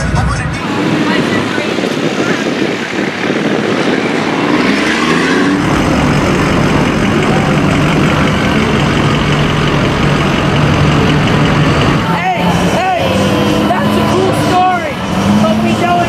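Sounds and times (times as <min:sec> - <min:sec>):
traffic noise: 0:00.0 - 0:16.0
truck engine running: 0:00.0 - 0:16.0.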